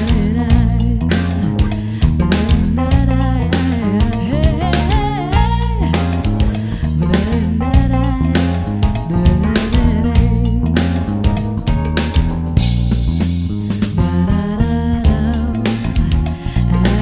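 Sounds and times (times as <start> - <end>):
bass line: 0.0 - 17.0
drums steady beat: 0.0 - 17.0.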